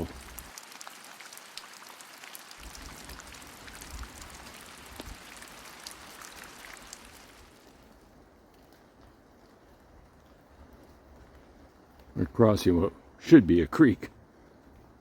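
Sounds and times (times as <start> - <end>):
rain on forest canopy: 0.0 - 15.0.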